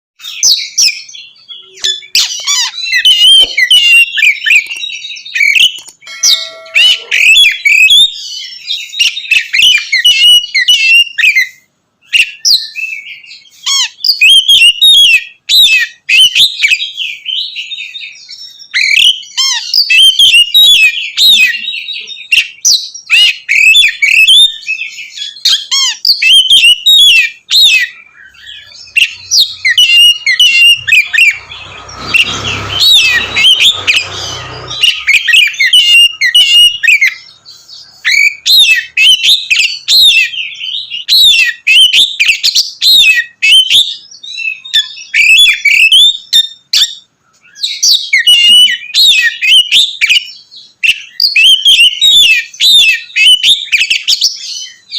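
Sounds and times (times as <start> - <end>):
magpie-robin singing: 0.2 - 54.9.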